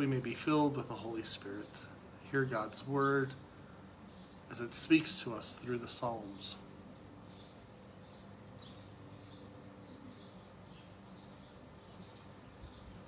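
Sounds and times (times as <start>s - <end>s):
low steady hum: 0.0s - 13.0s
small bird chirping: 1.3s - 13.0s.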